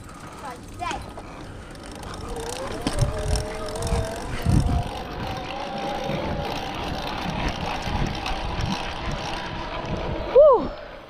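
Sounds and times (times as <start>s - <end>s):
low wind: 0.0s - 11.0s
road rumble: 0.0s - 11.0s
electric motor whining: 0.1s - 11.0s.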